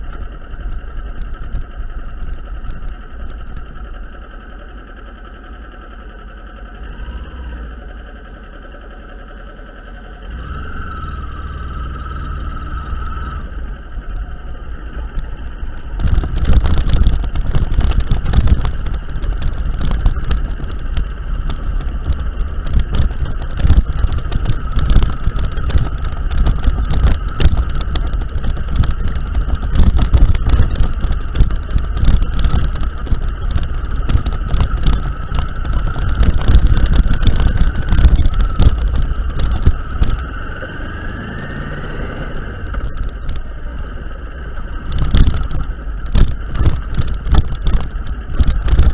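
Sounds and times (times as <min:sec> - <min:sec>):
knocks and rattles from potholes: 0:00.0 - 0:48.9
vehicle driving on broken road: 0:00.0 - 0:48.9.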